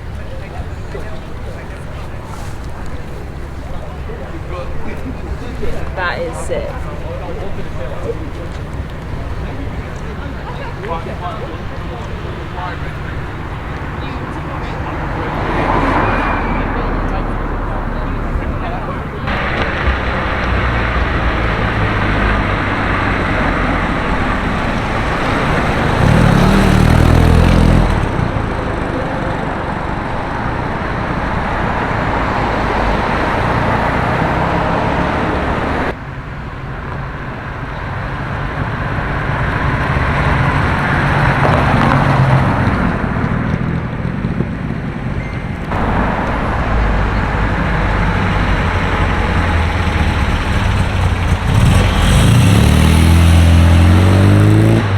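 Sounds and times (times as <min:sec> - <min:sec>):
cars driving past: 0:00.0 - 0:54.9
loud vehicle passing: 0:00.0 - 0:54.9
steady roadway noise: 0:00.0 - 0:54.9.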